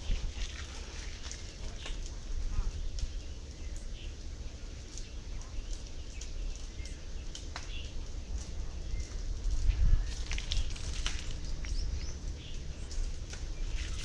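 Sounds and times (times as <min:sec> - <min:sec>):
wind buffeting microphone: 0:00.0 - 0:03.9, 0:05.0 - 0:14.0.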